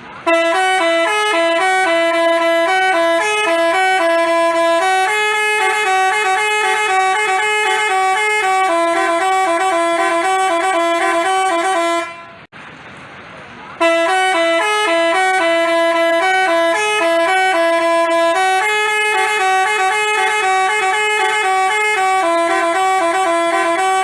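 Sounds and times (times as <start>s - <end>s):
musical horn melody: 0.2s - 12.5s, 13.8s - 24.0s.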